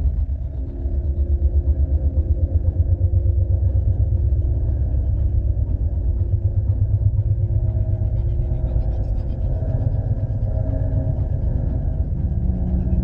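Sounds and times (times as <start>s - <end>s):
deep rumbling hum with fluttering pulse: 0.0s - 13.0s.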